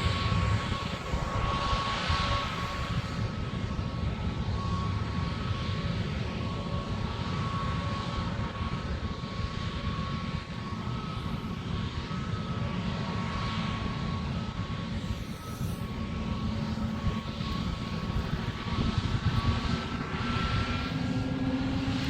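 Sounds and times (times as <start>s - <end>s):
high engine whine: 0.0s - 22.0s
jet engines roaring: 0.0s - 22.0s.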